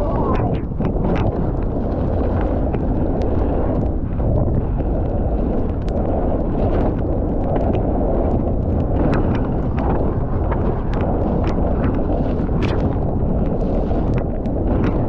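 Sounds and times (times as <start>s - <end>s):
bike tyre rumble: 0.0s - 15.0s
wind buffeting microphone: 0.0s - 15.0s.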